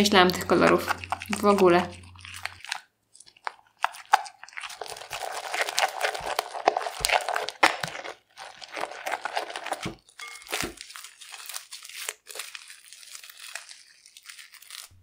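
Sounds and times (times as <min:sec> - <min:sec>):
spatula stirring slime in bowl: 0:00.0 - 0:12.8.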